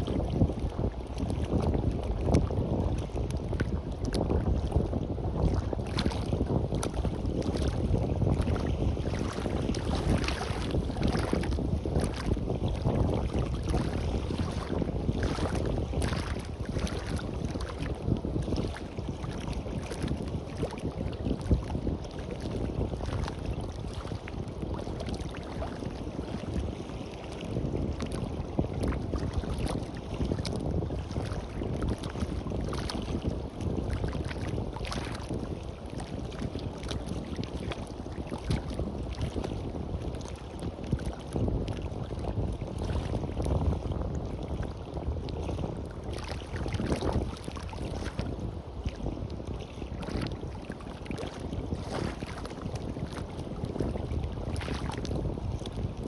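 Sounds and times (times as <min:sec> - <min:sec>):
waves washing on beach: 0:00.0 - 0:43.8, 0:45.3 - 0:55.7
wind buffeting microphone: 0:00.0 - 0:56.0.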